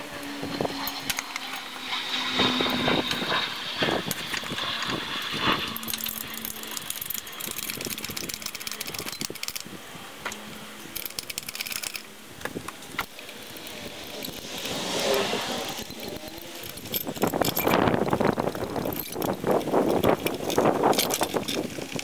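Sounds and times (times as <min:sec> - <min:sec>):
metallic clicks and chain rattles: 0:00.6 - 0:09.8, 0:10.8 - 0:22.0.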